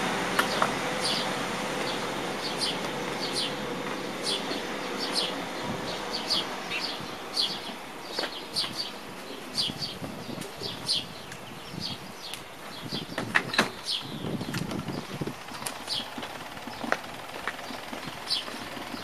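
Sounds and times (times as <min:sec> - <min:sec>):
small birds chirping: 0:00.4 - 0:19.0.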